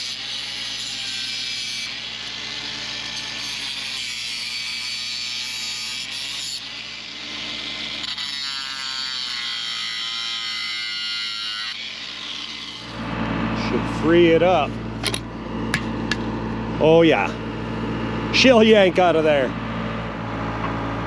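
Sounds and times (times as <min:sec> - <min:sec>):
power tool cutting: 0:00.0 - 0:17.0.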